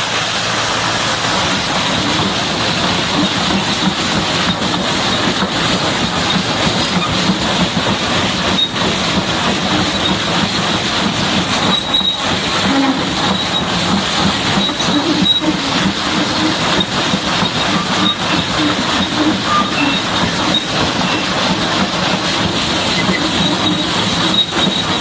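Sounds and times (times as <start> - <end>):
high-pressure water spray: 0.0 - 25.0.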